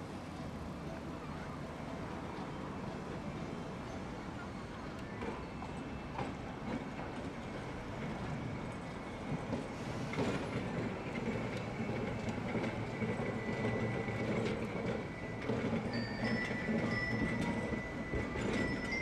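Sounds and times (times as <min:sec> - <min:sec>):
streetcar running on rails: 0:00.0 - 0:19.0.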